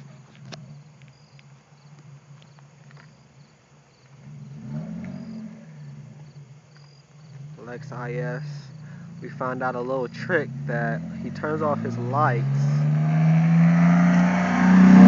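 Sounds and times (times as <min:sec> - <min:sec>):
crickets chirping: 0:00.0 - 0:14.9
car engine idling: 0:00.0 - 0:15.0.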